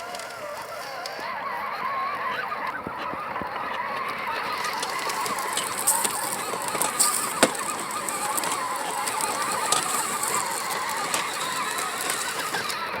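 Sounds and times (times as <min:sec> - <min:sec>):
toy car electric motors whining: 0:00.0 - 0:13.0.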